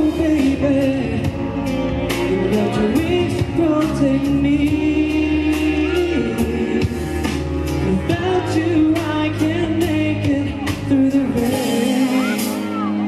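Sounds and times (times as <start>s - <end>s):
backing track with drumbeat: 0.0s - 13.0s
man singing pop melody: 0.0s - 13.0s.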